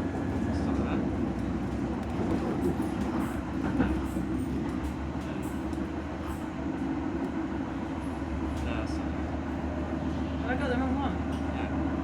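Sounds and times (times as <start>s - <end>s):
tram rumbling on track: 0.0s - 12.0s.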